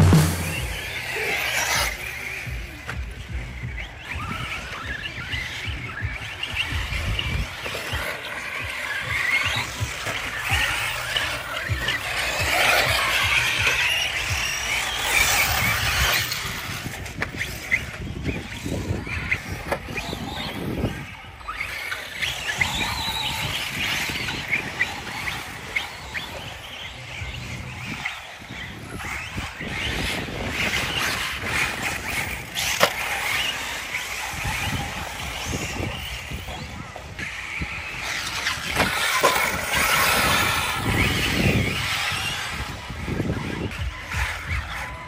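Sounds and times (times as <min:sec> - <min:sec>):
rc car motors whining: 0:00.0 - 0:45.0
tyre squeal: 0:03.7 - 0:45.0.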